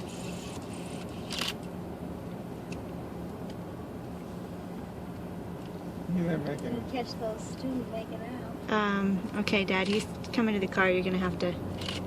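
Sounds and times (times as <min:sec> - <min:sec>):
vehicle interior hum: 0:00.0 - 0:12.0.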